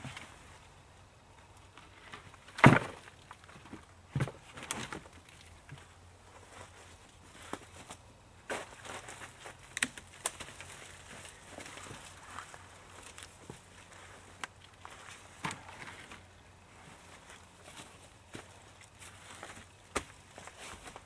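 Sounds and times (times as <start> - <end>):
dry branches knocking together: 1.7 - 5.9, 7.4 - 21.0.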